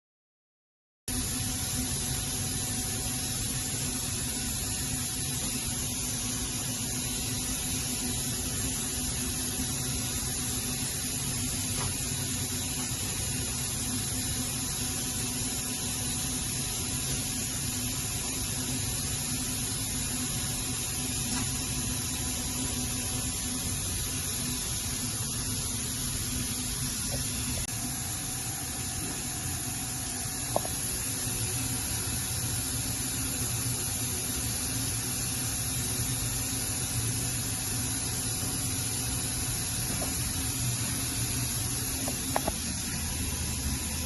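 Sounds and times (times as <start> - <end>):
electrical hum: 1.1 - 44.0.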